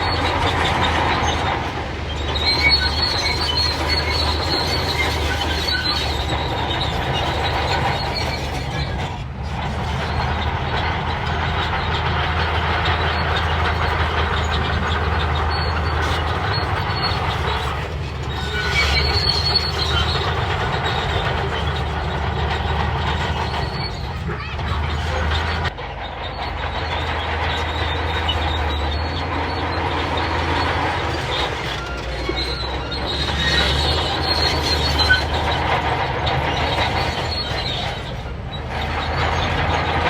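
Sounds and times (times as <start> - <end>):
bulldozer diesel engine humming: 0.0 - 40.0
steel tracks squealing and clanking: 0.0 - 40.0.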